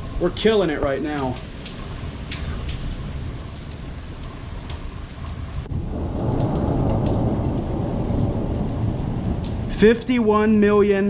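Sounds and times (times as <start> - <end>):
drips ticking: 0.0 - 10.8
rain falling steadily: 0.0 - 11.0
thunder rumble: 0.0 - 11.0.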